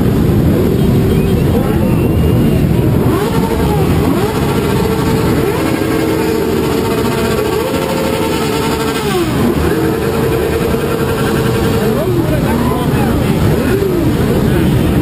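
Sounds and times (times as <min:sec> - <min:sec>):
motorcycle engines revving: 0:00.0 - 0:15.0
motorcycles idling: 0:00.0 - 0:15.0.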